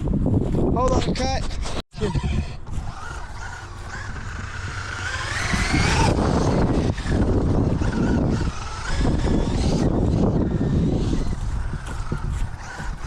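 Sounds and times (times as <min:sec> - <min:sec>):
electric motor whining: 0:02.0 - 0:13.0.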